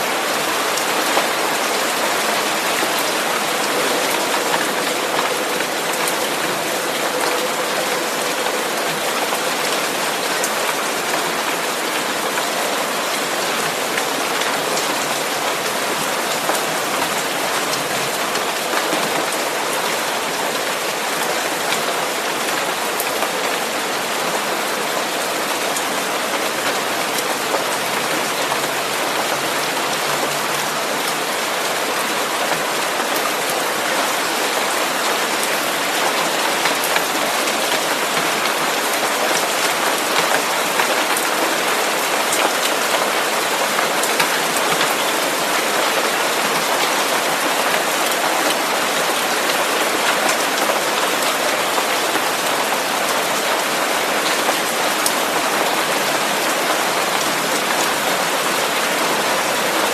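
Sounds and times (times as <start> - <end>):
steady rain-like hiss: 0.0 - 59.9.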